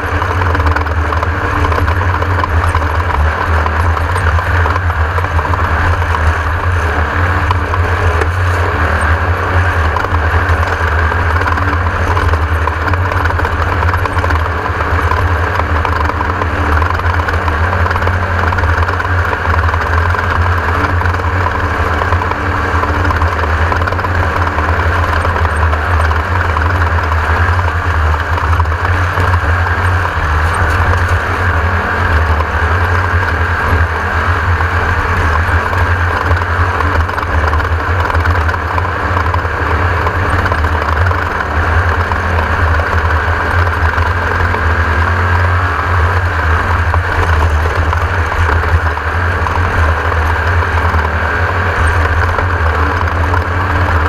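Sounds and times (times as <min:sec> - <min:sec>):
buggy engine running hard: 0:00.0 - 0:54.0.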